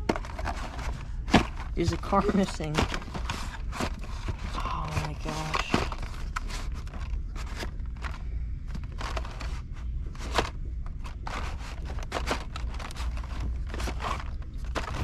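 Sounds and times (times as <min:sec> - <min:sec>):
plastic clicks and scrapes: 0:00.0 - 0:15.0
steady low hum: 0:00.0 - 0:15.0.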